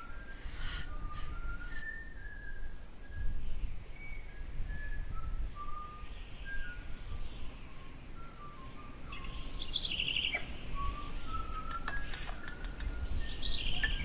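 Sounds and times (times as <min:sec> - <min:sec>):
bird whistling: 0:00.0 - 0:03.3, 0:04.0 - 0:14.0.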